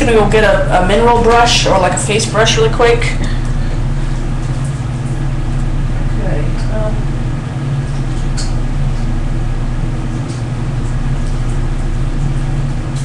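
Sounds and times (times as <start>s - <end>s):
low buzzing hum: 0.0s - 13.0s.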